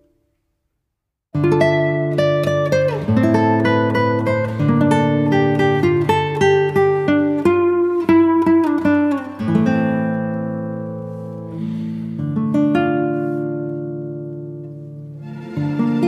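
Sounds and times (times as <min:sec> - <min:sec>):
acoustic guitar music: 0:01.3 - 0:16.0.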